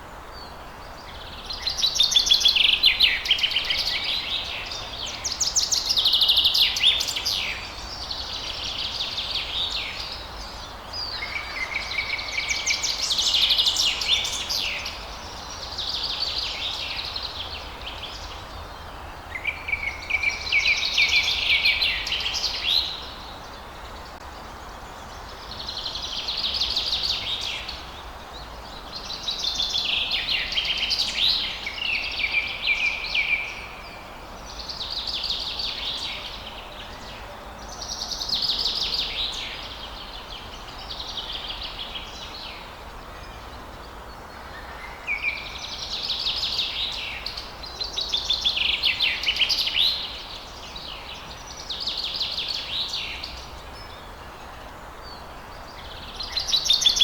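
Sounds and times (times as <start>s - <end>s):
faint background noise: 0.0s - 57.0s
songbirds trilling and chirping: 0.0s - 57.0s.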